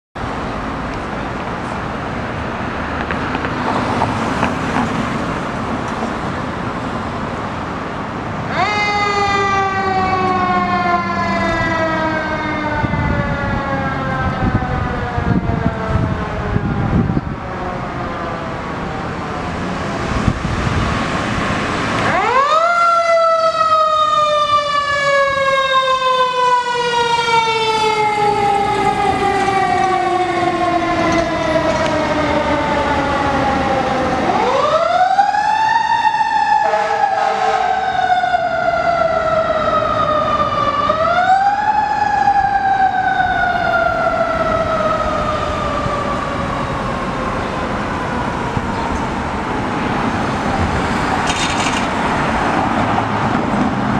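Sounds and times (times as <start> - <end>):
fire engine siren wailing: 2.7 - 53.9.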